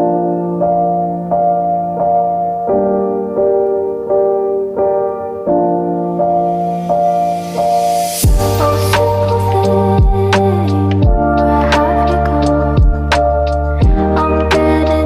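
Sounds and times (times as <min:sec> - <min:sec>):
piano playing soft chords: 0:00.0 - 0:15.0.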